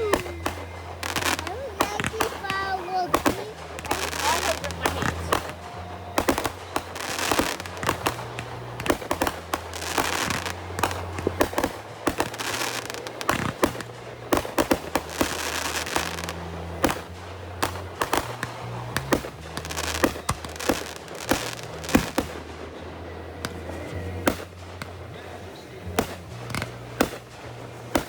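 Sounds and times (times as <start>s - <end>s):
fireworks bangs and pops: 0.0s - 28.0s
fireworks crackling: 0.0s - 28.0s
music playing: 0.0s - 28.0s.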